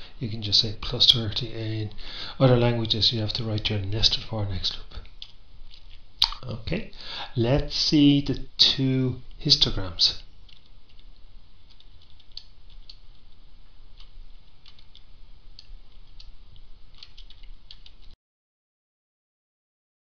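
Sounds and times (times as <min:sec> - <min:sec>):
low steady background hum: 0:00.0 - 0:18.2.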